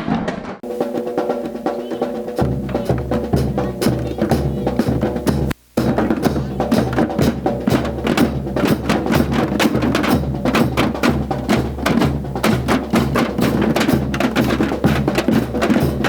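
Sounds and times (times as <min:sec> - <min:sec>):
drumming on cans and buckets: 0:00.0 - 0:16.0.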